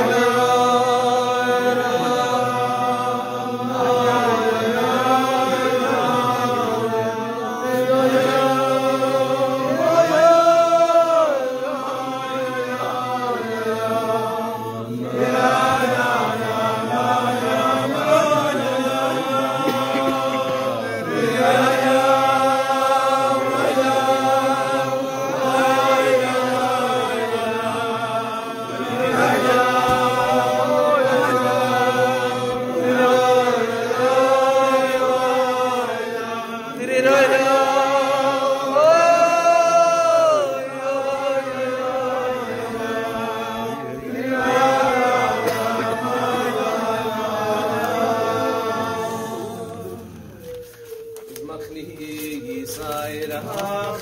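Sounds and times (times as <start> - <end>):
men singing together: 0.0 - 54.0.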